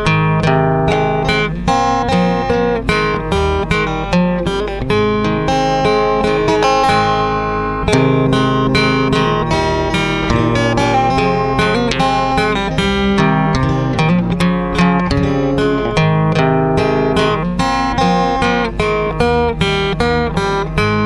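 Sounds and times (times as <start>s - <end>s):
fingerstyle acoustic guitar: 0.0s - 21.0s.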